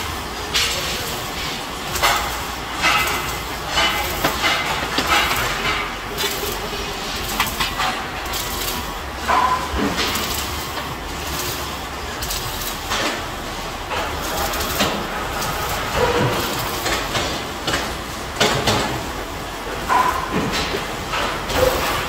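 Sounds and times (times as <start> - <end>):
machinery din: 0.4 - 19.0
steel clanking and knocking: 1.6 - 19.1, 19.7 - 22.0.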